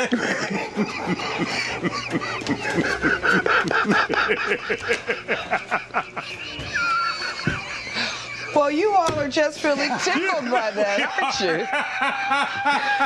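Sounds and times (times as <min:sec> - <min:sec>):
wheezing honking laughter: 0:00.0 - 0:08.6, 0:09.7 - 0:13.0.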